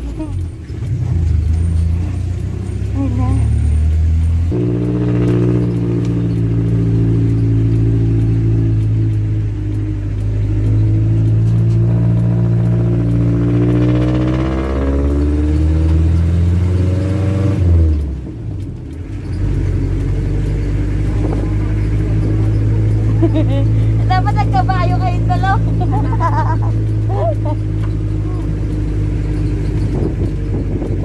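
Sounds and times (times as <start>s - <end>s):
car engine running under load: 0.0s - 31.0s.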